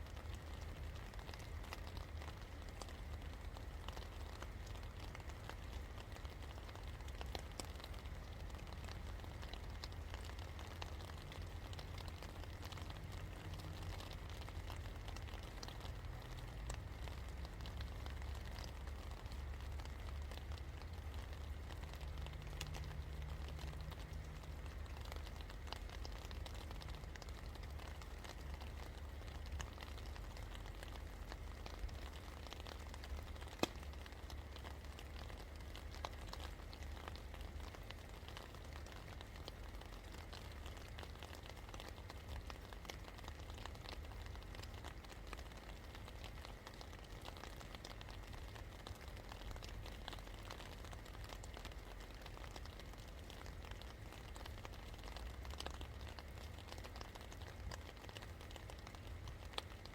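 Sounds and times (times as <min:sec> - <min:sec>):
low steady rumble: 0:00.0 - 0:59.9
rain falling: 0:00.0 - 0:59.9.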